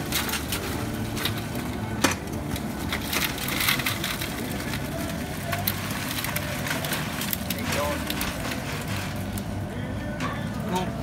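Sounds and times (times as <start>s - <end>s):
crawfish clattering on metal: 0.0s - 9.6s.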